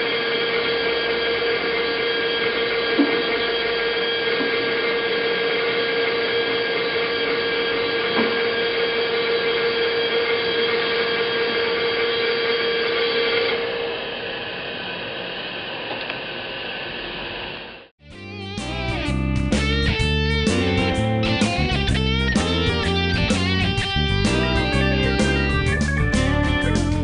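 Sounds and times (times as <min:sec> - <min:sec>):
grinder machine hum: 0:00.0 - 0:27.0
machine whine: 0:00.0 - 0:27.0.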